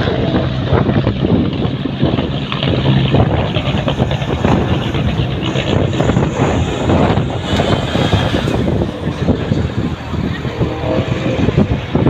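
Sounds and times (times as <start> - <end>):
race truck engines rumbling: 0.0 - 12.0
wind buffeting microphone: 0.0 - 12.0.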